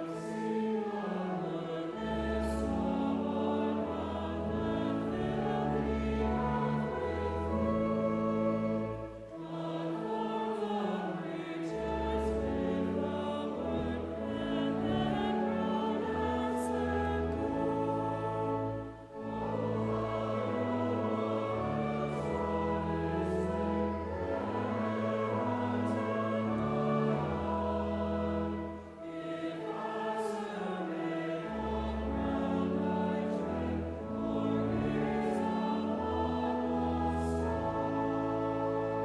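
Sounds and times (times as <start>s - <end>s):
choir singing: 0.0s - 39.0s
instrumental accompaniment: 0.0s - 39.0s.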